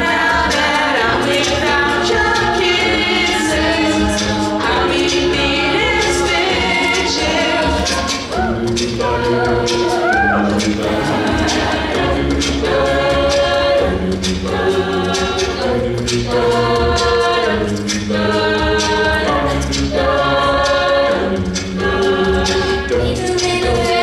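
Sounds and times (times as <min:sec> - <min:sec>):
girls singing in harmony: 0:00.0 - 0:24.0.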